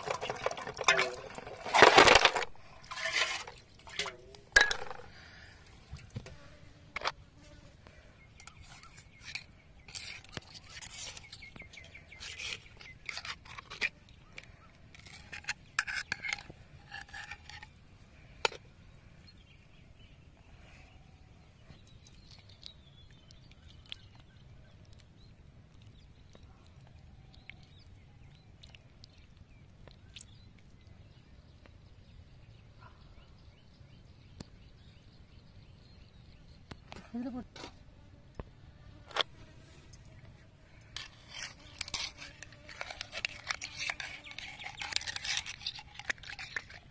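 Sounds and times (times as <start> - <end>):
faint outdoor ambience: 0.0 - 46.9.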